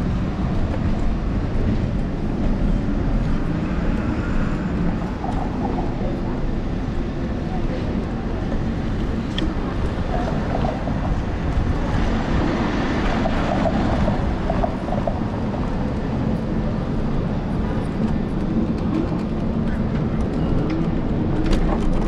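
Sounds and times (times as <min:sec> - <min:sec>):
city street traffic: 0:00.0 - 0:22.0
wind buffeting microphone: 0:00.0 - 0:22.0.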